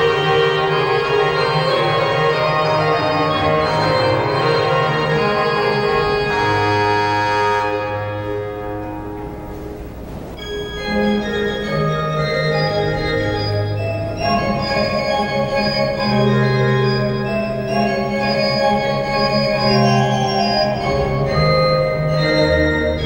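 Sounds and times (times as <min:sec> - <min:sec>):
pipe organ chords: 0:00.0 - 0:23.0.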